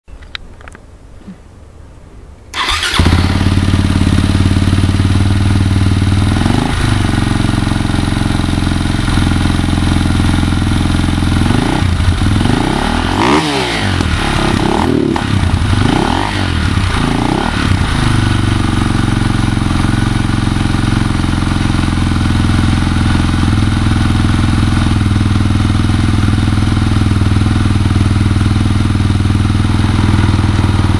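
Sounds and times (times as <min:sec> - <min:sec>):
motorcycle engine idling and revving: 0:02.6 - 0:30.9.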